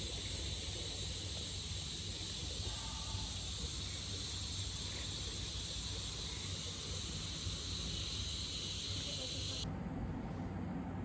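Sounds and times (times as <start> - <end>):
high-pitched insect chorus: 0.0 - 9.6.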